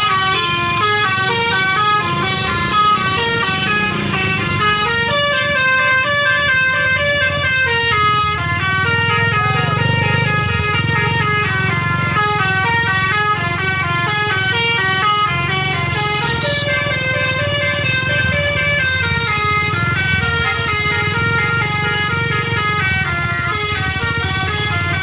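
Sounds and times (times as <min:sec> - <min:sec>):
bus engine running: 0:00.0 - 0:25.0
multi-tone air horn melody: 0:00.0 - 0:25.0.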